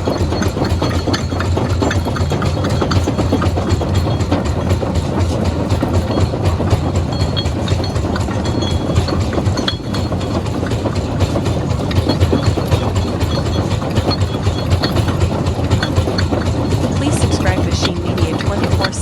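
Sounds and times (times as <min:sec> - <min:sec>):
heavy machinery rumbling and rattling: 0:00.0 - 0:19.0.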